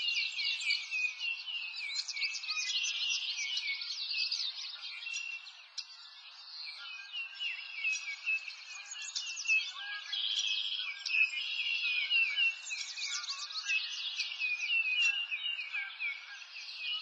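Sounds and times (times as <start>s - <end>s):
birds chirping and singing: 0.0s - 17.0s.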